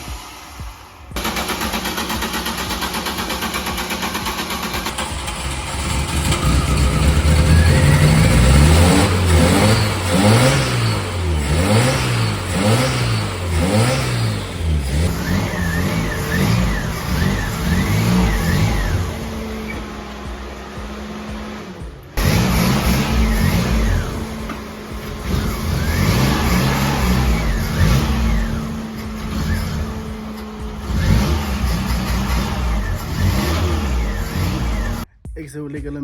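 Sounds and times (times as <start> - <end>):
car engine idling and revving: 0.0 - 35.1.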